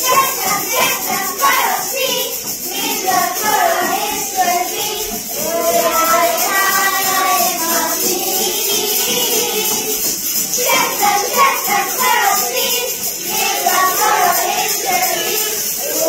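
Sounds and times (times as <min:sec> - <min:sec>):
children singing in unison: 0:00.0 - 0:16.0.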